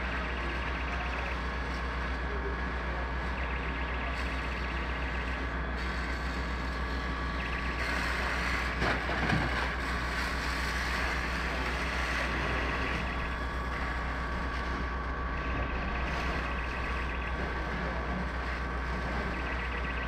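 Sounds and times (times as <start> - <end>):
fire engine pump running: 0.0 - 20.0.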